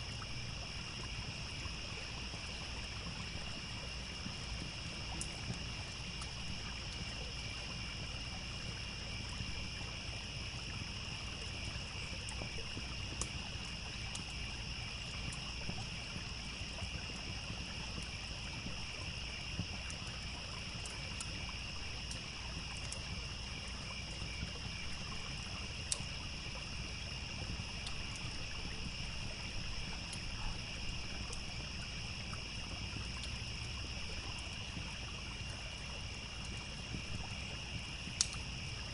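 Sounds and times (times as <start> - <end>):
campfire crackling: 0.0 - 38.9
crickets chirping: 0.0 - 38.9
trickling stream: 0.0 - 38.9.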